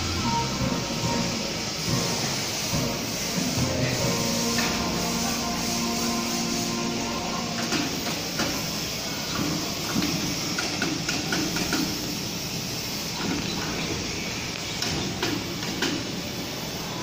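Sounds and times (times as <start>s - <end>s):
workshop noise: 0.0s - 17.0s.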